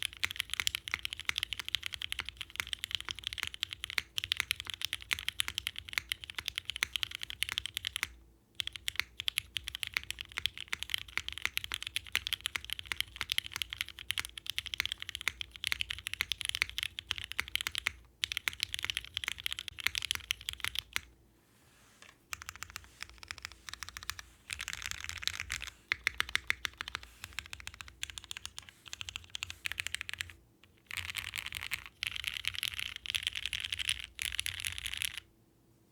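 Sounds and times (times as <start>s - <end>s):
fast typing on mechanical keyboard: 0.0s - 21.1s, 22.3s - 35.3s.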